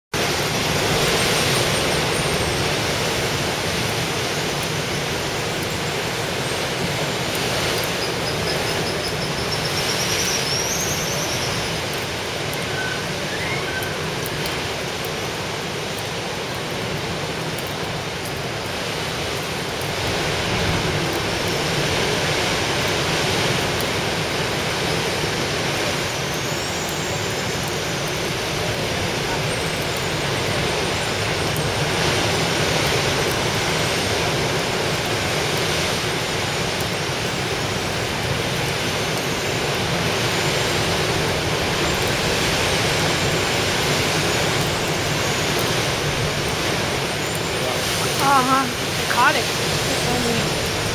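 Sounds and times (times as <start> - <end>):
ocean surf breaking over rocks: 0.2 - 50.9.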